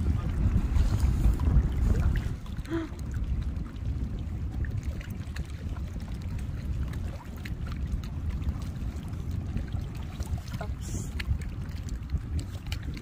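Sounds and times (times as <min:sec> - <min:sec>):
water splashes and drips: 0:00.0 - 0:13.0
wind rumble on microphone: 0:00.0 - 0:13.0.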